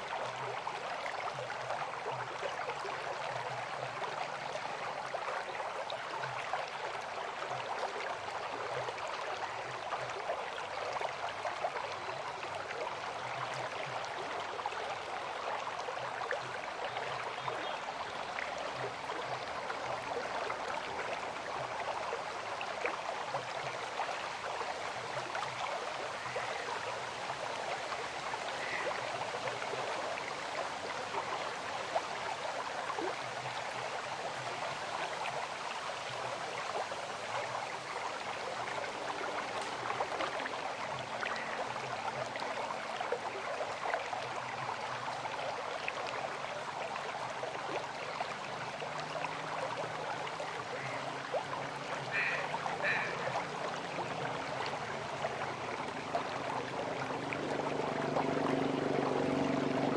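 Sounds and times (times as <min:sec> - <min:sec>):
river water rushing: 0:00.0 - 0:59.9
small water splashes: 0:00.0 - 0:59.9.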